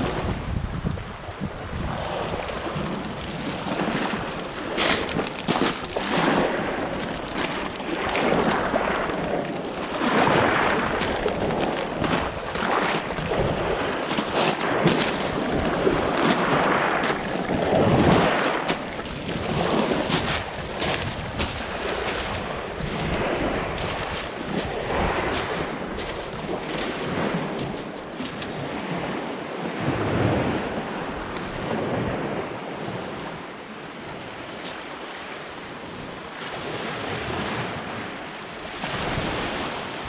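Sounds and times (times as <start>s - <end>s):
rushing wind and water: 0.0s - 40.0s.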